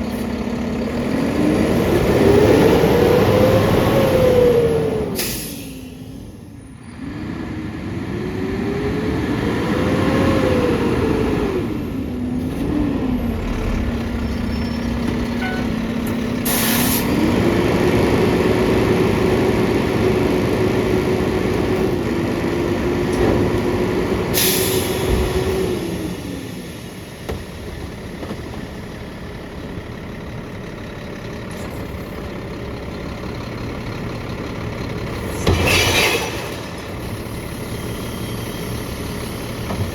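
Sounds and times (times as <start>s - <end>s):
garbage truck engine revving: 0.0s - 5.4s, 6.9s - 30.0s, 31.4s - 39.9s.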